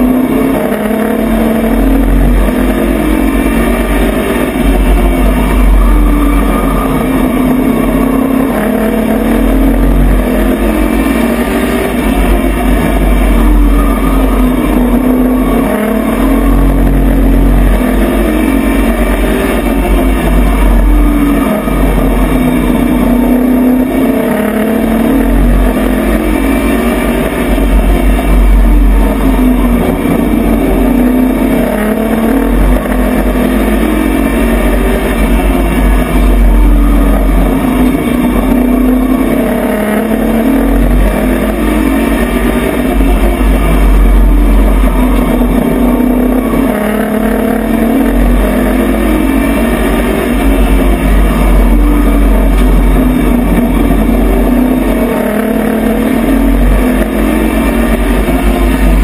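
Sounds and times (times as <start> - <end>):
truck engine under load: 0.0 - 59.0.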